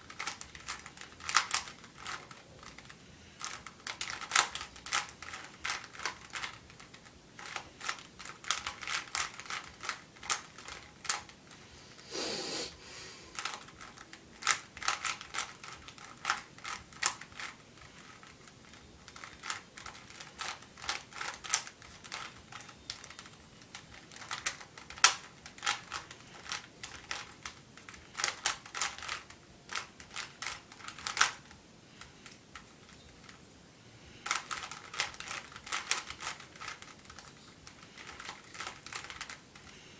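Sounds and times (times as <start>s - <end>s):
puzzle cube clicking: 0.0s - 11.4s, 13.3s - 33.4s, 34.2s - 39.9s.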